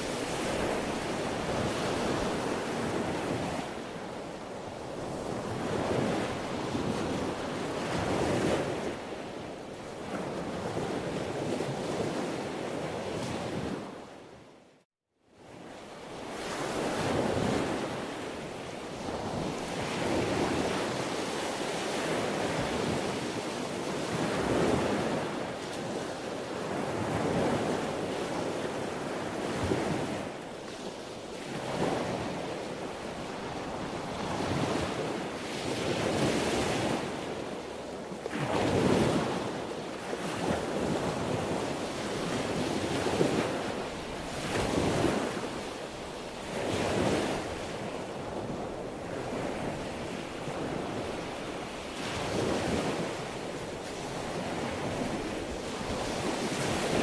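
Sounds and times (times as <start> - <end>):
sea waves breaking on shore: 0.0 - 14.4, 15.4 - 57.0.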